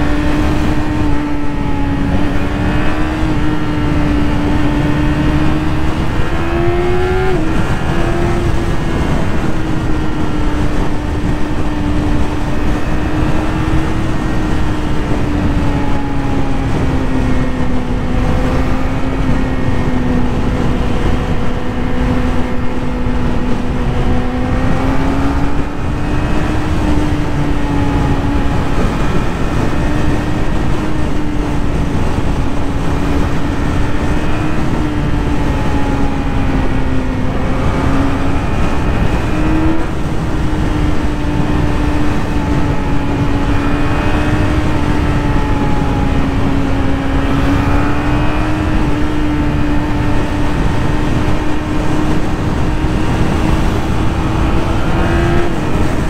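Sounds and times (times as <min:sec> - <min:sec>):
motorcycle engine cruising: 0:00.0 - 0:56.0
wind rumble on microphone: 0:00.0 - 0:56.0.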